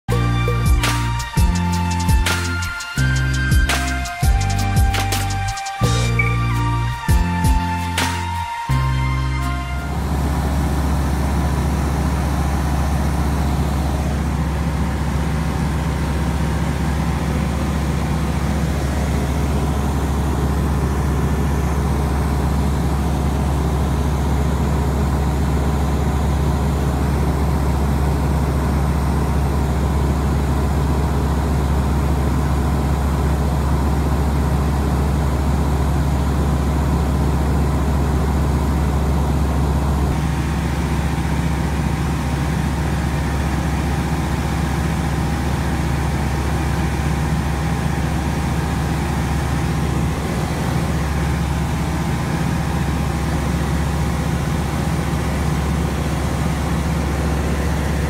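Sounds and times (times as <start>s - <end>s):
aircraft engine droning: 0.1s - 58.0s.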